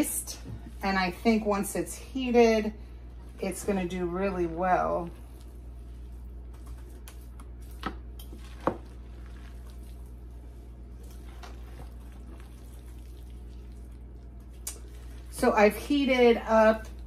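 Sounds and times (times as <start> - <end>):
steady low hum: 0.0 - 17.0
wet stirring sounds: 0.0 - 17.0.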